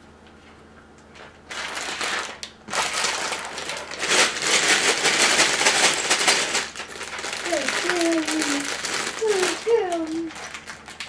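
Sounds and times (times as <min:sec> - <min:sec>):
plastic bag tearing and crinkling: 0:01.5 - 0:11.0.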